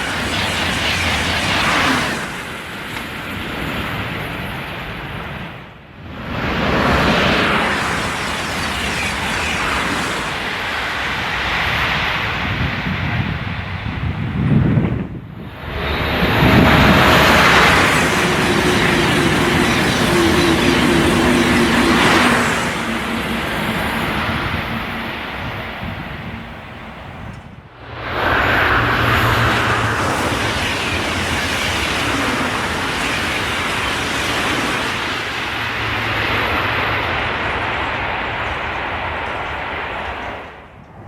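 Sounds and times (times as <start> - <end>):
high-speed train rushing past: 0.0 - 41.0.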